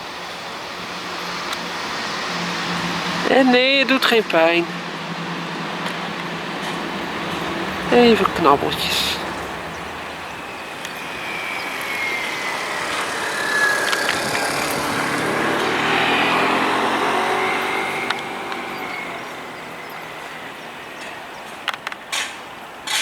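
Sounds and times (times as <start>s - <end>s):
motor vehicle passing by: 0.0s - 23.0s.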